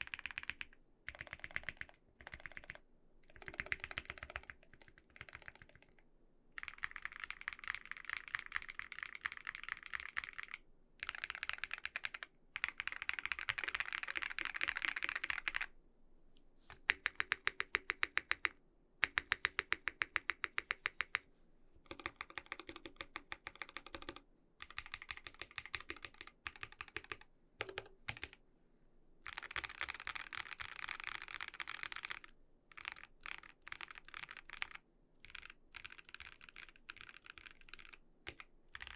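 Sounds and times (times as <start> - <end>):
mechanical keyboard typing: 0.0 - 6.0, 6.6 - 15.7, 16.8 - 21.2, 21.9 - 28.4, 29.3 - 38.9.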